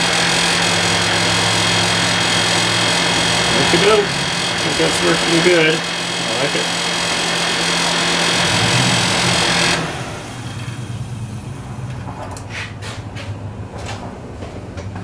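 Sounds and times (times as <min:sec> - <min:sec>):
heater blower rushing air: 0:00.0 - 0:12.6.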